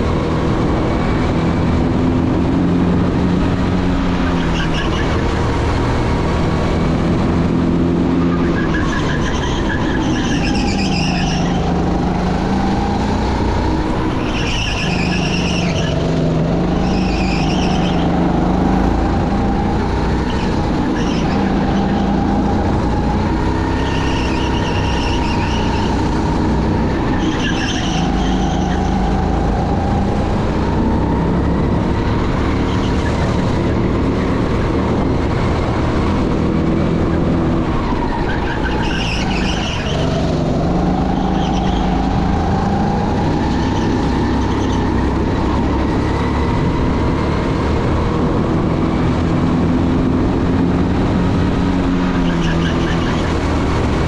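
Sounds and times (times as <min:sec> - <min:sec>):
go-kart engines racing: 0:00.0 - 0:54.0.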